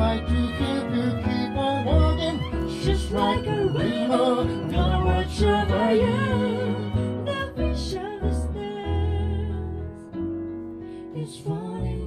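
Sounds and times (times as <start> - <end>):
person singing: 0.0 - 9.8
piano: 0.0 - 12.0
upright bass: 0.0 - 12.0.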